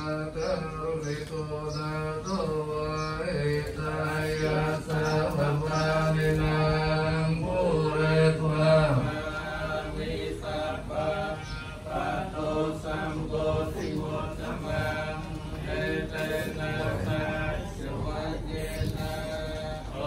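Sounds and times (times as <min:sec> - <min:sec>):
monks chanting: 0:00.0 - 0:20.0.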